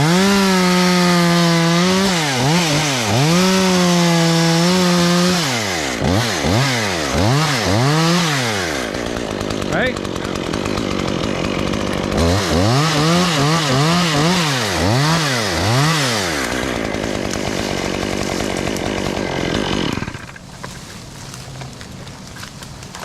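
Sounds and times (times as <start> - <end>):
chainsaw running: 0.0 - 23.0.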